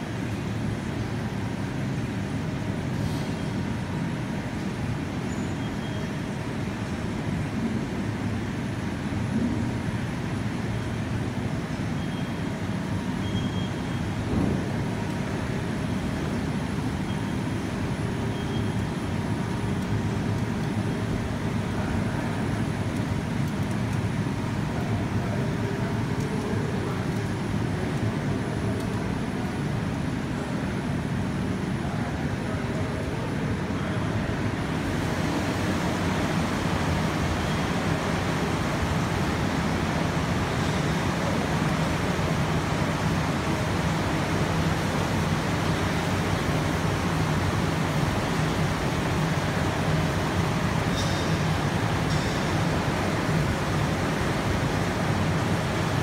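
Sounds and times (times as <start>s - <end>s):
production line machinery humming: 0.0s - 56.0s.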